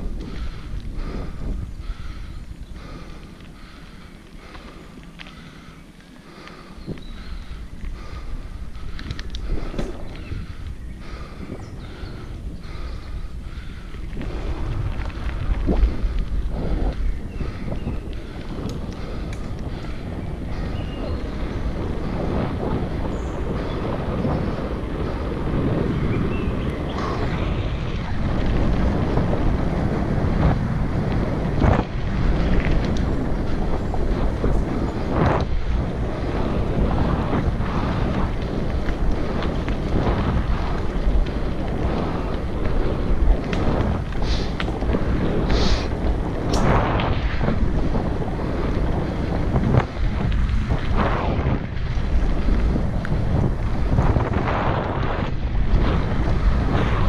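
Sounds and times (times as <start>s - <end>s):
bike clattering over bumps: 0.0s - 57.0s
bike tyres rolling: 0.0s - 57.0s
wind buffeting microphone: 0.0s - 57.0s.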